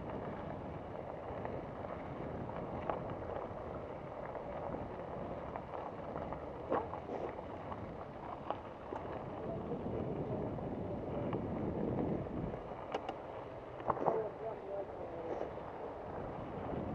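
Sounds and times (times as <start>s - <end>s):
bike clicks and rattles: 0.0s - 16.9s
wind noise on microphone: 0.0s - 16.9s.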